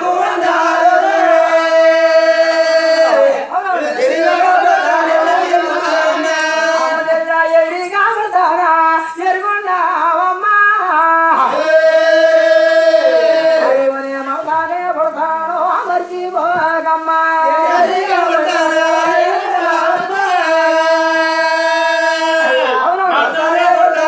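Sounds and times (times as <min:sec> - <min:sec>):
men singing in unison: 0:00.0 - 0:10.1, 0:10.9 - 0:24.0.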